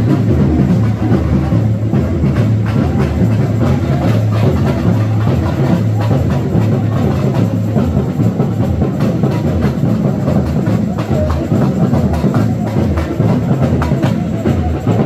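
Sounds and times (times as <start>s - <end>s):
samba percussion music: 0.0s - 15.0s.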